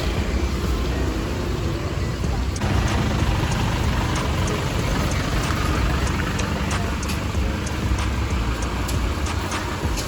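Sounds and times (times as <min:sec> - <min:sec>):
vehicle rumbling in motion: 0:00.0 - 0:10.0.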